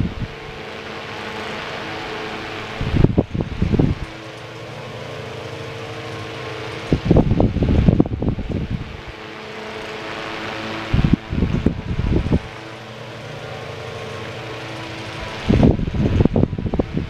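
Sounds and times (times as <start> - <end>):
low buffeting: 0.0 - 17.0
table fan motor hum: 0.0 - 17.0.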